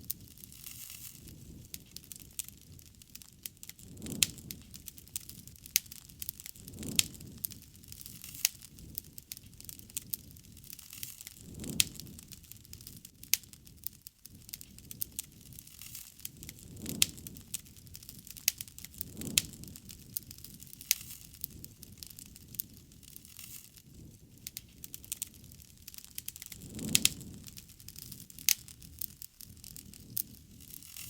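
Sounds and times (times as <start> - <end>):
bonfire crackling: 0.0 - 31.0.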